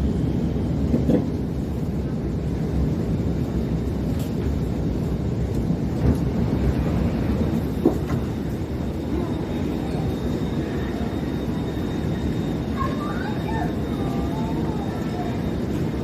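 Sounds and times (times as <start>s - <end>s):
train car rumble and hum: 0.0s - 16.0s.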